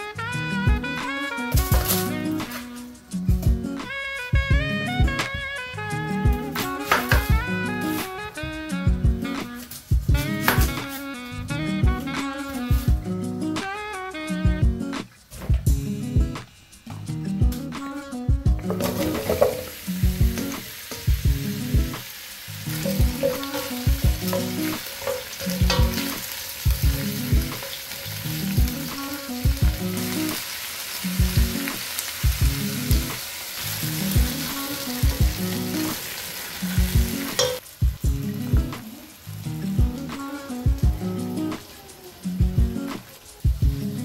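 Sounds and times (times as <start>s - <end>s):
background music with steady beat: 0.0s - 44.0s
vegetables sizzling in oil: 1.2s - 14.0s, 17.9s - 44.0s.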